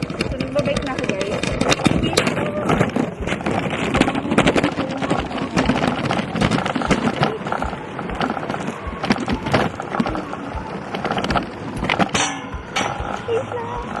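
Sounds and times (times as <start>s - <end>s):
bicycle rattling and clattering: 0.0s - 14.0s
rough rumble: 0.0s - 14.0s.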